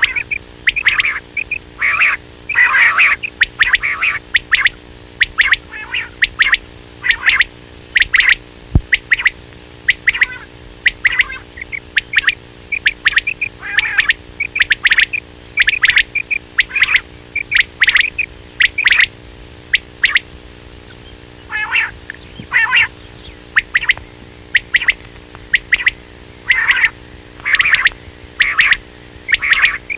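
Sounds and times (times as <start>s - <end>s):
faint steady hum: 0.0s - 29.9s
quail calling: 0.0s - 29.9s.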